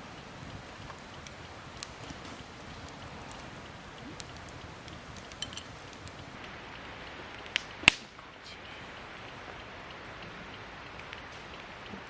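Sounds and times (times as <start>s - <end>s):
campfire wood crackling: 0.0s - 12.0s.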